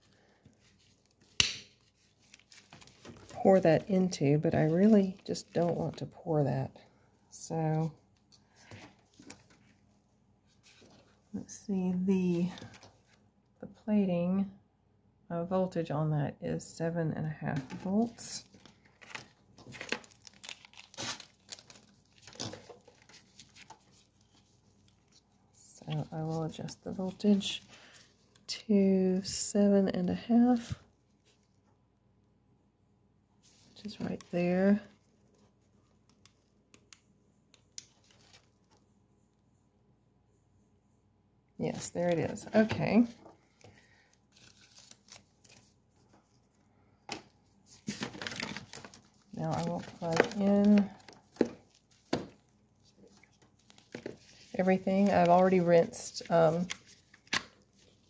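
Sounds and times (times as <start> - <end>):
crinkling and rustling handling: 0.0 - 13.4, 17.2 - 31.9, 33.4 - 39.5, 41.6 - 58.0.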